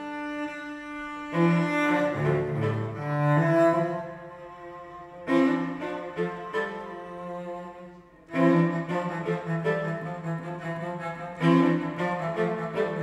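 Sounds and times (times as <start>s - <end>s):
bowed cello music: 0.0s - 13.0s.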